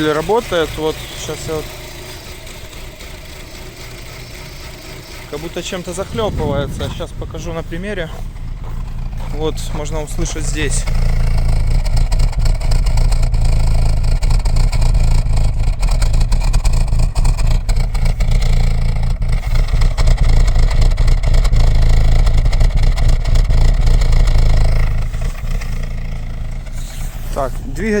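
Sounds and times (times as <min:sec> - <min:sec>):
car engine running rough: 0:00.0 - 0:28.0
loud engine knocking: 0:00.0 - 0:28.0.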